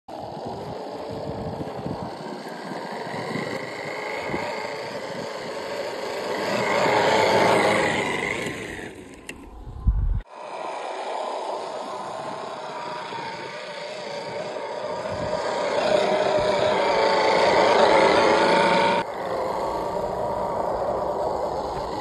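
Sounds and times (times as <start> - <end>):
model car motor whine: 0.1 - 22.0.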